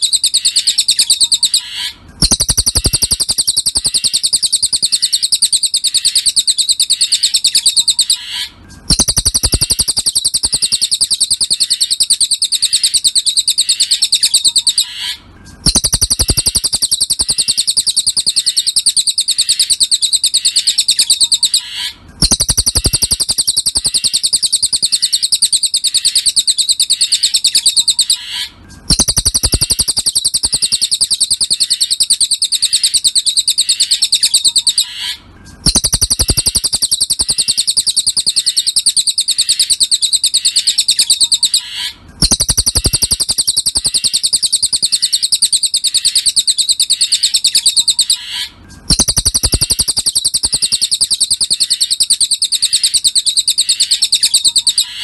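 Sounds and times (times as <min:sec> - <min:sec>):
bird song of high chirps: 0:00.0 - 0:55.0.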